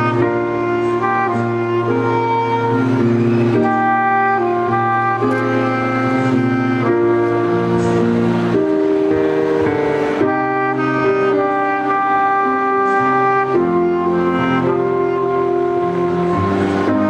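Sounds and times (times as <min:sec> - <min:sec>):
chord accompaniment with bass: 0:00.0 - 0:17.0
saxophone melody: 0:00.0 - 0:17.0.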